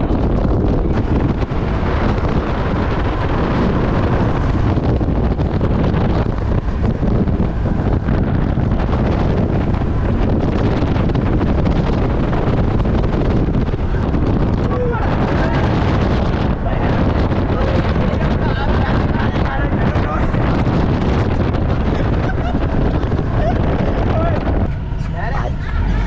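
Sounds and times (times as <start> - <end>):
jeep engine: 0.0 - 26.0
road noise: 0.0 - 26.0
wind buffeting microphone: 0.0 - 26.0.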